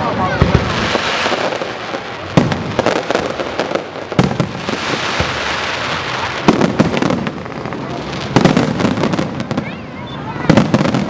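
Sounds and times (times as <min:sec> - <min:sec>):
small firework pops: 0:00.4 - 0:09.7.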